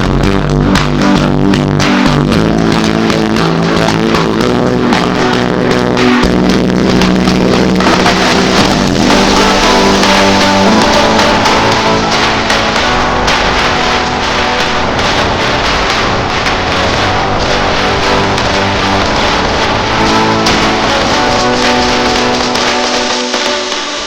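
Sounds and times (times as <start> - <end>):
vehicle running: 0.0 - 23.6
music with guitar and drums: 0.0 - 24.0.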